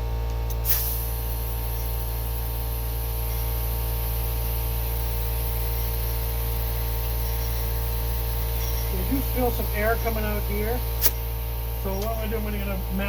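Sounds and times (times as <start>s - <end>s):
air compressor running: 0.0s - 13.0s
air hissing through hose: 0.5s - 13.0s.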